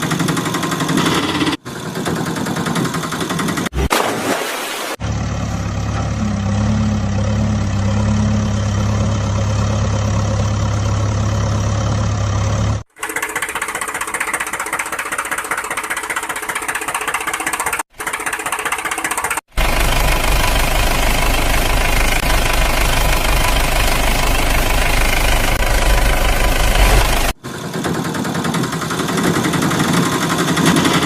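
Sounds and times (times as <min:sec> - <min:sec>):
engine running with knocking: 0:00.0 - 0:03.8, 0:05.3 - 0:31.0.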